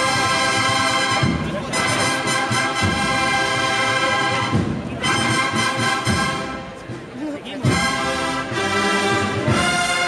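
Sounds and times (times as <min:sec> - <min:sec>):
brass band music: 0:00.0 - 0:10.0.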